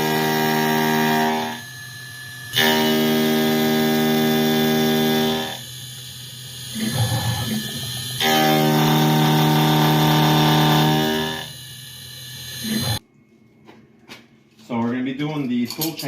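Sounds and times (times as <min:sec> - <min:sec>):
milling cutter whining through metal: 0:00.0 - 0:13.0.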